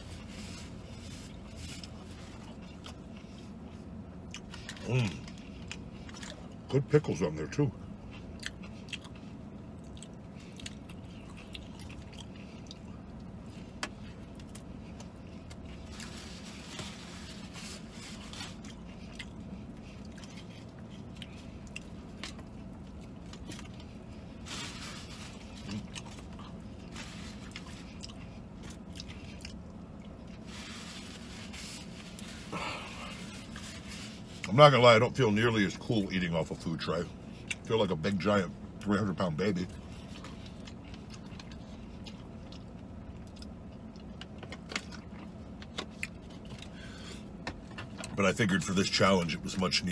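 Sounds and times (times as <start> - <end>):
person chewing: 0.0 - 6.7, 7.7 - 34.5, 37.1 - 37.7, 39.7 - 48.2
steady low hum: 0.0 - 49.9.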